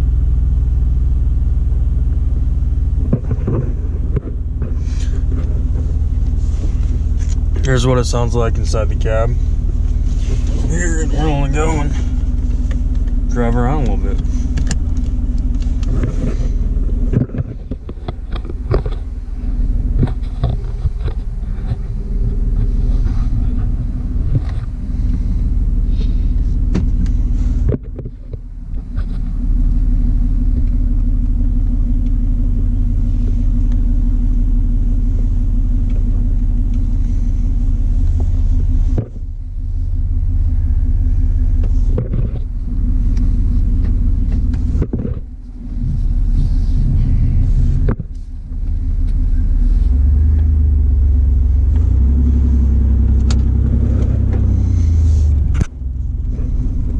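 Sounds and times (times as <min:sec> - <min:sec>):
loud exhaust drone: 0:00.0 - 0:56.9.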